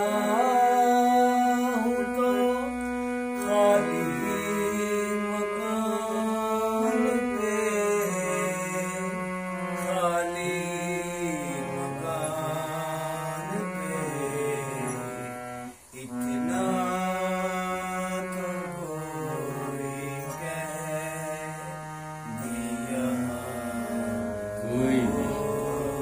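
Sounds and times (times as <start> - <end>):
harmonium: 0.0 - 26.0
man singing: 0.0 - 26.0.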